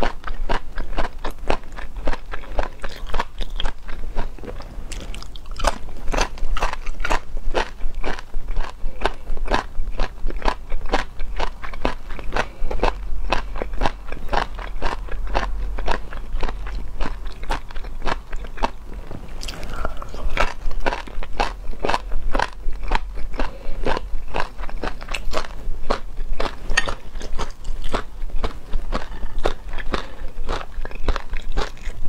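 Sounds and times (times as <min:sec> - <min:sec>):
crunchy chewing: 0:00.0 - 0:32.0.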